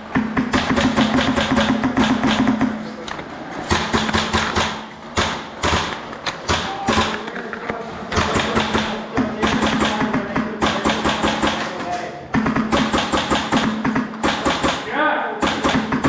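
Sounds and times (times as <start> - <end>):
airsoft guns firing bursts: 0.0 - 2.9, 3.7 - 7.3, 8.1 - 16.0.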